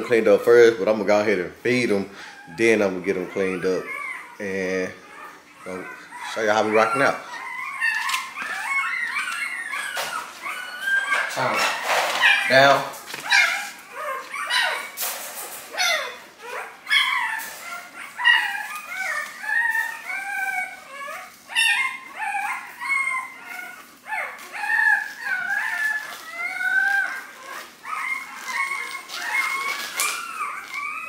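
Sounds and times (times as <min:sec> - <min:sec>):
puppies crying and squealing: 0:00.0 - 0:31.0.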